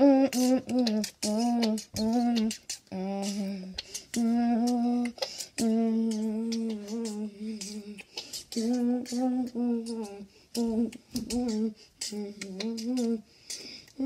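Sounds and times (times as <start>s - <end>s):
child humming: 0.0s - 13.2s.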